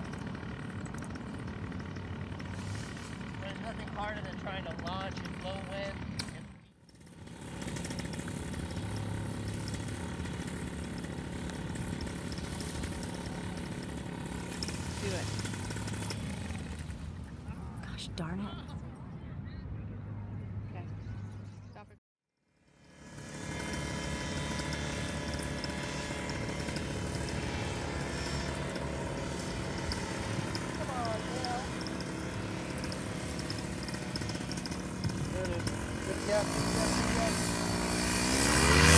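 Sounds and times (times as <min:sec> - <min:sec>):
paramotor engine idling: 0:00.0 - 0:17.8, 0:22.7 - 0:38.9.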